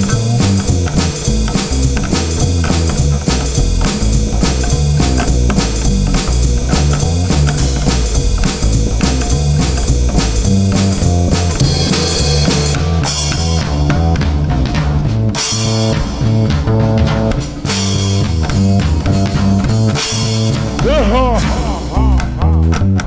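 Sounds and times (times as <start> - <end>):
drum kit beat: 0.0 - 23.0
guitar: 0.0 - 23.0
plucked double bass: 0.0 - 23.0.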